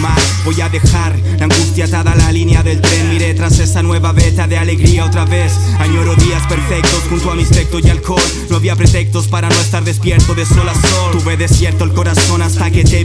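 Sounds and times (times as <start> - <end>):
drum hits: 0.0 - 5.1, 6.2 - 13.0
heavy bass line: 0.0 - 13.0
rapping over a beat: 0.0 - 13.0.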